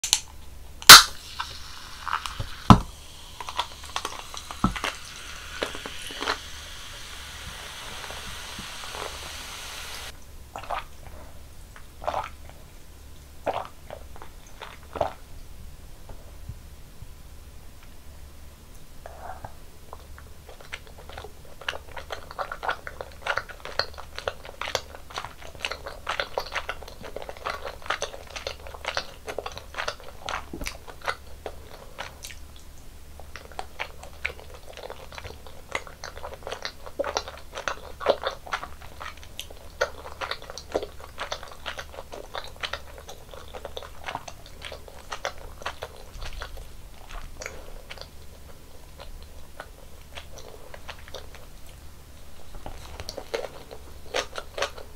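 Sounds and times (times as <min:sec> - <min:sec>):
person chewing crunchy food: 0:00.9 - 0:12.6, 0:13.4 - 0:15.2, 0:19.1 - 0:54.9.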